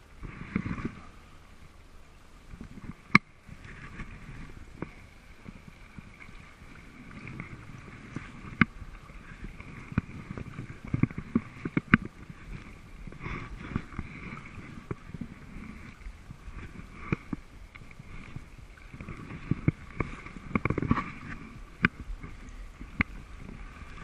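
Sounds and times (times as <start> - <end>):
paddle dipping and splashing: 0.0 - 24.0
water dripping and slapping: 2.5 - 24.0.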